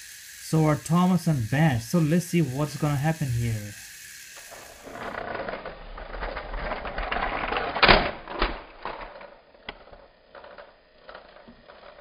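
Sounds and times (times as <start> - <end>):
toy train crash clatter: 0.0 - 12.0
toy train motor rattling: 0.0 - 12.0.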